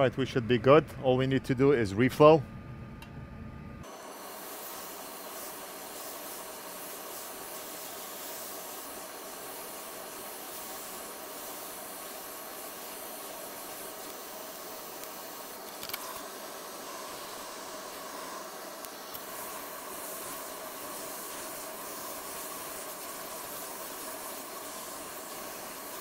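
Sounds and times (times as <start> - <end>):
hot air station hissing: 3.8 - 26.0.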